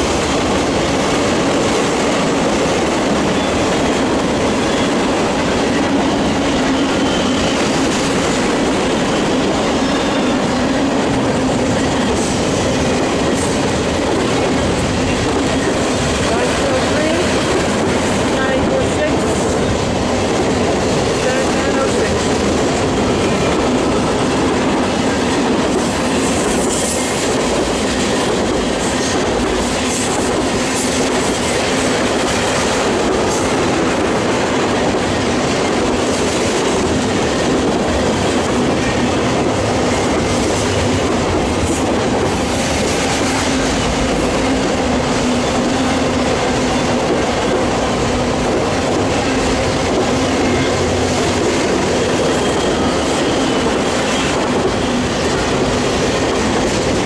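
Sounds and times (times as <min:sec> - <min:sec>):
freight train cars rolling: 0:00.0 - 0:57.0.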